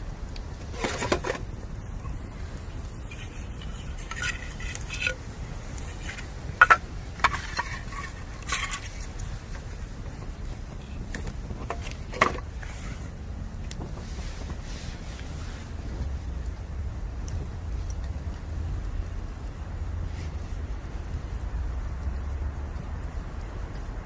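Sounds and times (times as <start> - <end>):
bamboo fire crackling and popping: 0.0 - 24.0
low steady rumble: 0.0 - 24.0.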